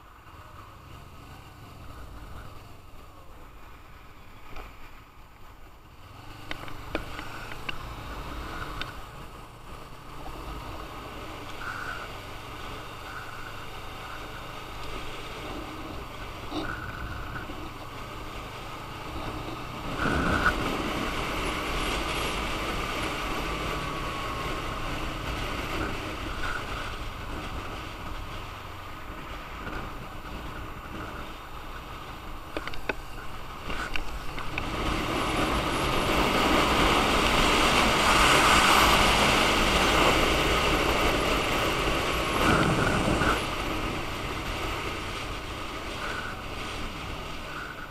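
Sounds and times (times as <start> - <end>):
motorcycle engine running: 0.0 - 47.9
wind rush on camera: 0.0 - 47.9.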